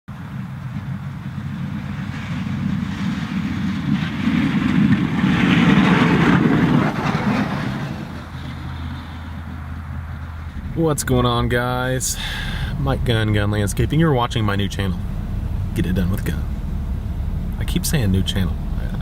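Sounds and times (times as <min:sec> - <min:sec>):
pickup truck engine under load: 0:00.1 - 0:19.0
snow plow blade scraping pavement: 0:00.2 - 0:19.0.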